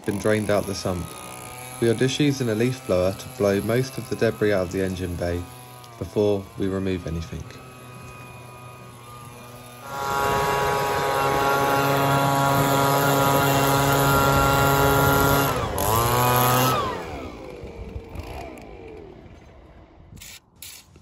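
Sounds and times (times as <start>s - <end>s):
leaf blower revving: 0.0s - 20.8s.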